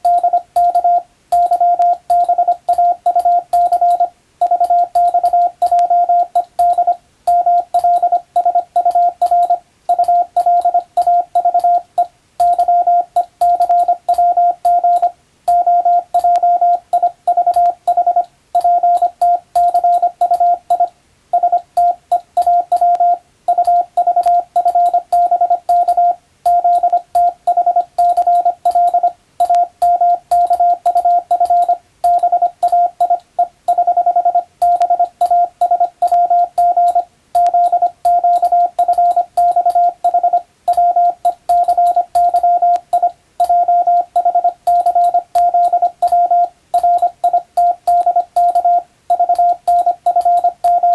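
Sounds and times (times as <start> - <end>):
morse code beeping: 0.0 - 50.9.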